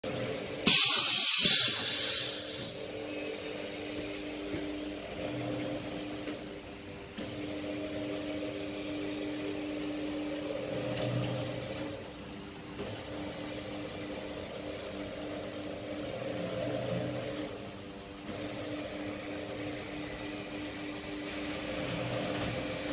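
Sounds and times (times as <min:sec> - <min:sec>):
machine mechanical hum: 0:00.0 - 0:22.9.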